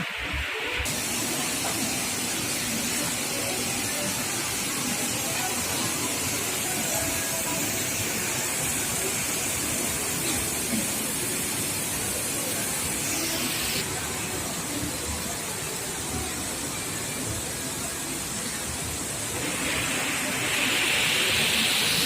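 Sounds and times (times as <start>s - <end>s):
faint indistinct voices: 0.0s - 22.0s
steady hissing ambience: 0.0s - 22.0s.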